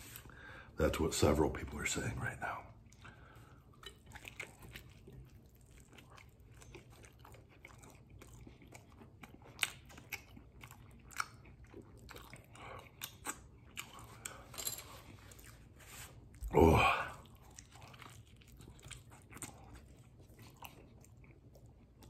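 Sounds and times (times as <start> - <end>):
man chewing food: 2.4 - 22.0.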